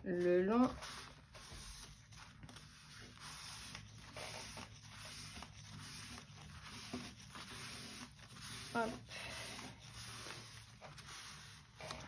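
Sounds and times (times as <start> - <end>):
cloth rag wiping cardstock: 0.2 - 12.0.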